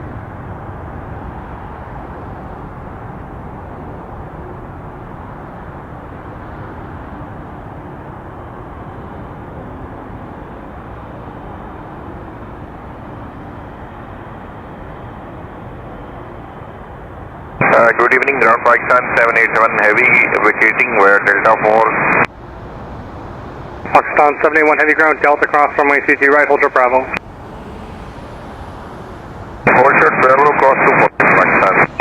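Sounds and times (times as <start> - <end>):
jet engine taxiing: 0.0 - 32.0.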